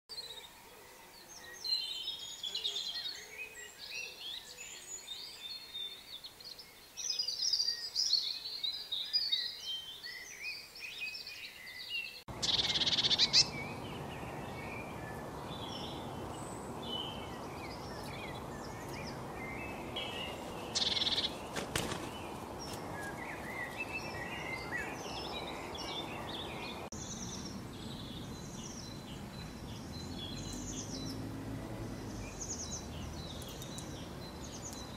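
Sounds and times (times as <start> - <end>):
songbirds chirping and singing: 0.1 - 34.9
steady outdoor hiss: 0.1 - 34.9.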